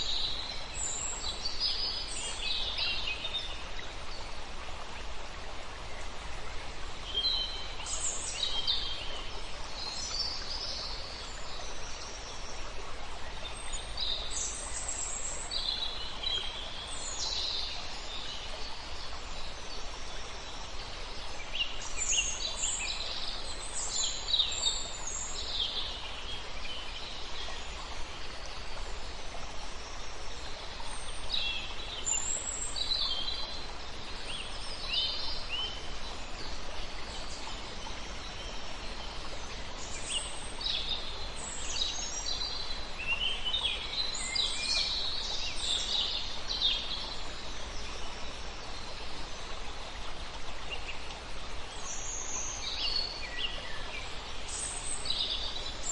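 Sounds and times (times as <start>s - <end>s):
flowing water hiss: 0.0s - 55.9s.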